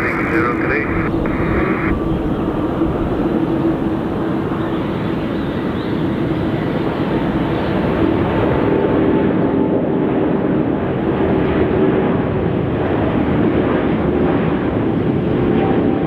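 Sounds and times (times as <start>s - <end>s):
jet airliner engines running: 0.0s - 16.0s.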